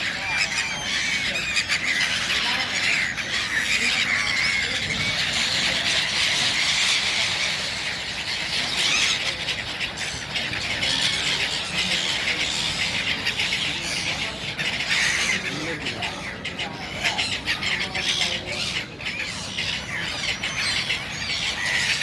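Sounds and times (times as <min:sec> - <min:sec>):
flock of birds chirping: 0:00.0 - 0:22.0.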